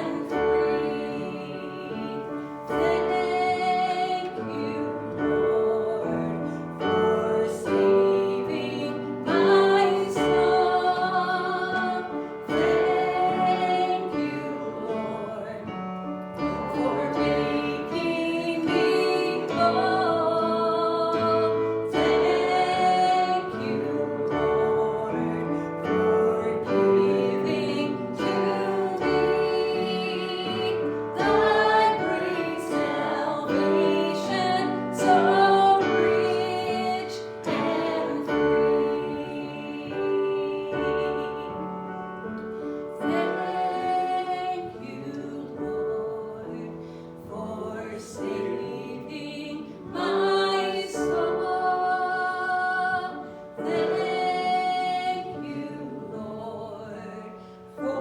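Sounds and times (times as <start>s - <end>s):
piano accompaniment: 0.0s - 58.0s
voices singing: 0.0s - 58.0s.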